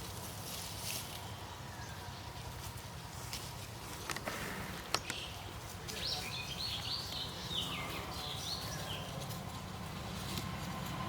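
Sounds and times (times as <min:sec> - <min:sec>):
birds chirping: 0:01.0 - 0:10.5.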